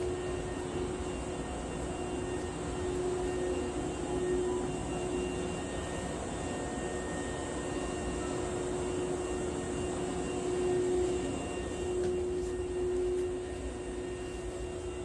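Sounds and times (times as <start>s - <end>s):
constant hum tone: 0.0s - 15.0s
electric train rumble: 0.0s - 15.0s.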